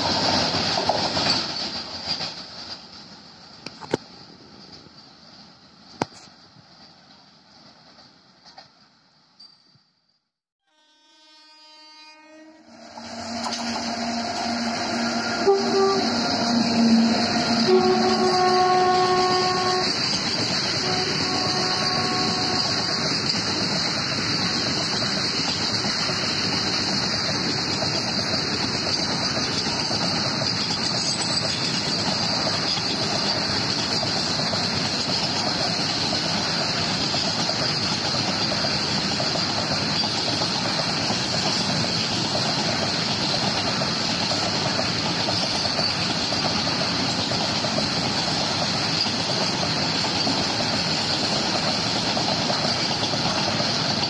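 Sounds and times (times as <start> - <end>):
freight train rolling past: 0.0 - 9.2, 10.8 - 54.0.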